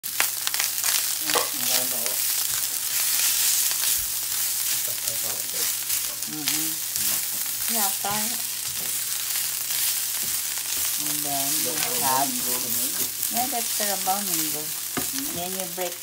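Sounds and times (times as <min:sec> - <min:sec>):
rice sizzling in a hot pan: 0:00.0 - 0:16.0.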